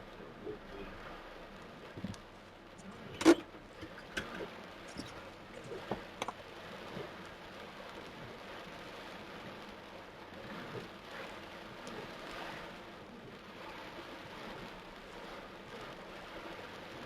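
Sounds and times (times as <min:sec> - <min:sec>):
torrential rain hissing: 0:00.0 - 0:17.0.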